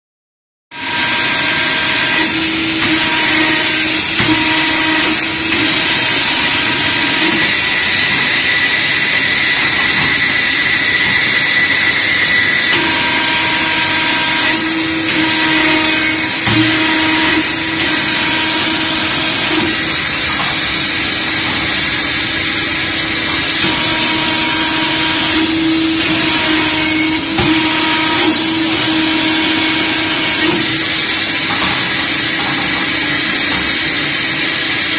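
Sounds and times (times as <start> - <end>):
machine motor whining: 0.8 - 34.9.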